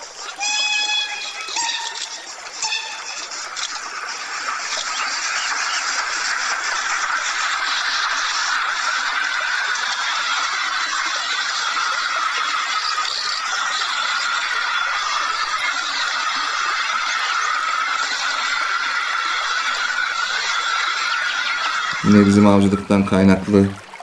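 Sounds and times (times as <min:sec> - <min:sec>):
chorus of bird chatter: 0:00.0 - 0:22.9
birds honking: 0:00.0 - 0:23.6.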